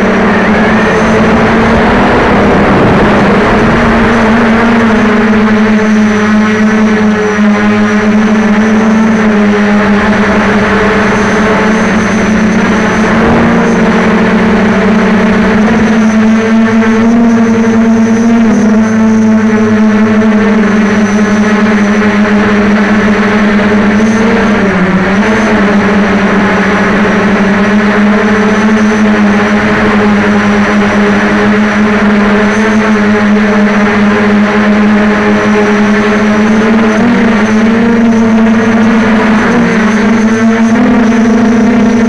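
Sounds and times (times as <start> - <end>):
quadcopter propellers buzzing: 0.0 - 42.0.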